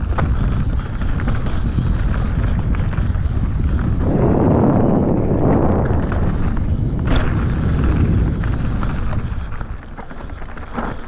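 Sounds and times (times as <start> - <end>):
bike rattling and clattering: 0.0 - 11.0
wind rumbling on microphone: 0.0 - 11.0.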